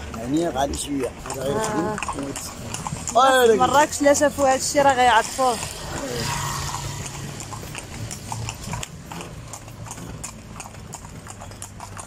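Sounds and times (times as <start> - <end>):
horse hooves on asphalt: 0.0 - 12.0.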